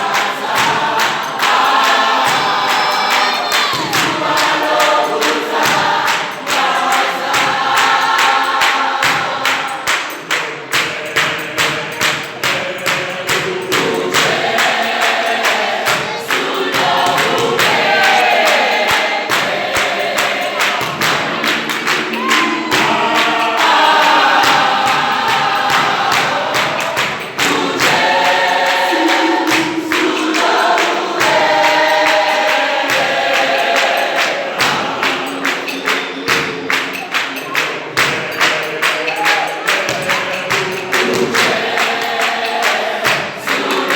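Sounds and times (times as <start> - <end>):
choir singing in harmony: 0.0 - 43.9
sharp rhythmic knocks: 0.0 - 43.9.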